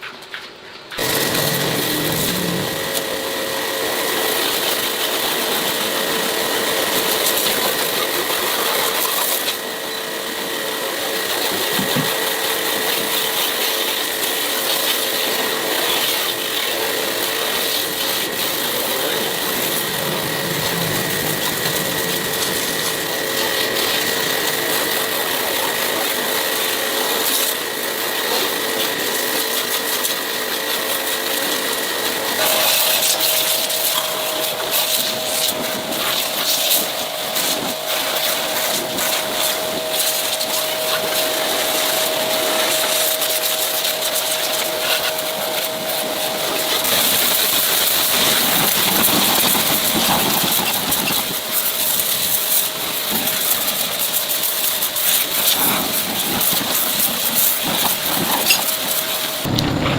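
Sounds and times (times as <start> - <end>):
small power tool whining: 1.0 - 59.9.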